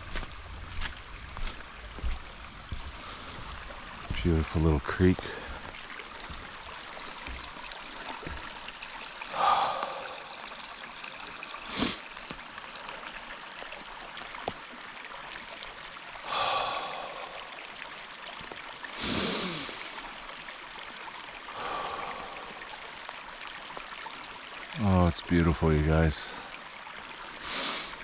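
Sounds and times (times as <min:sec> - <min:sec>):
forest creek running: 0:00.0 - 0:28.0.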